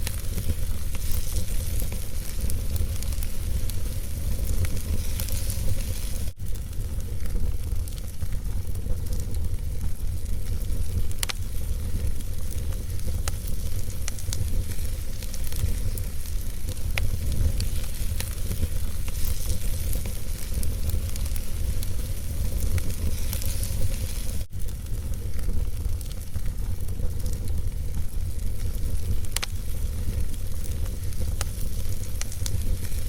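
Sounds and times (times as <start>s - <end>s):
fire crackling and popping: 0.0s - 33.0s
fire rumble and hiss: 0.0s - 33.0s.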